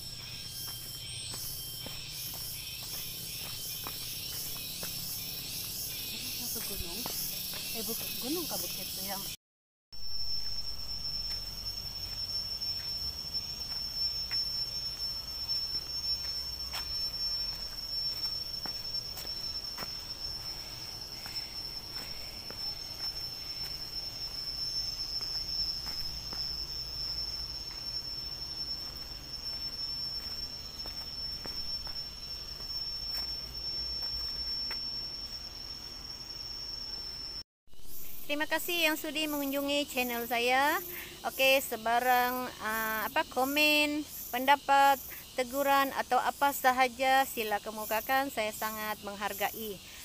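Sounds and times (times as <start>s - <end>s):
insects droning: 0.0s - 9.4s, 10.0s - 50.0s.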